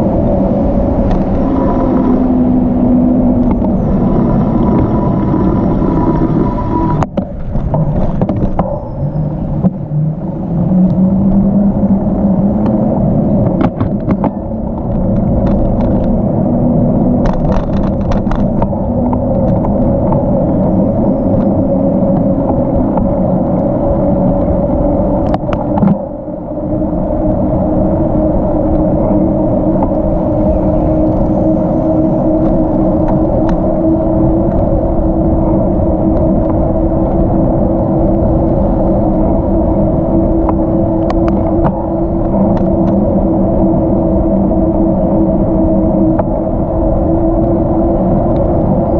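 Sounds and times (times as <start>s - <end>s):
bicycle tyres rolling: 0.0s - 48.9s
steady hum: 0.0s - 48.9s
wind rushing over microphone: 0.0s - 48.9s.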